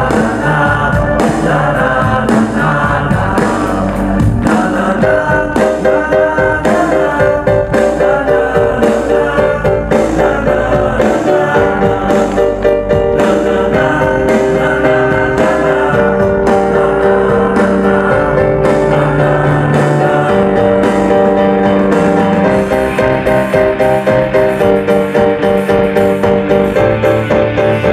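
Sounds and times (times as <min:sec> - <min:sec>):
drums: 0:00.0 - 0:27.9
electric guitar: 0:00.0 - 0:27.9
keyboards: 0:00.0 - 0:27.9.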